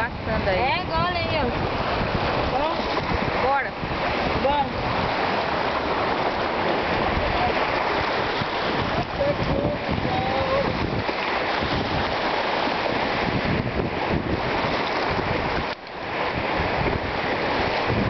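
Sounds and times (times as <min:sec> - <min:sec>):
sea surf washing over rocks: 0:00.0 - 0:18.0
wind buffeting microphone: 0:00.0 - 0:18.0.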